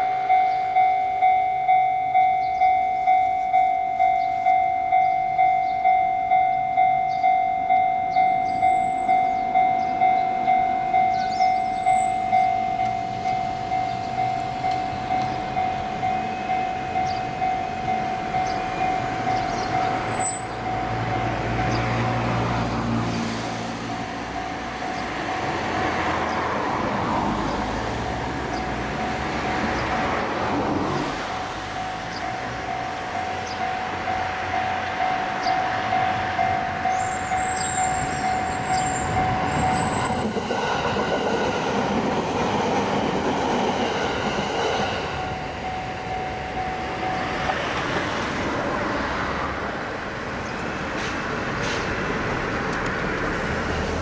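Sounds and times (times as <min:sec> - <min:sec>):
railway crossing alarm clanging: 0:00.0 - 0:54.0
train rumble and wheel noise: 0:00.0 - 0:54.0.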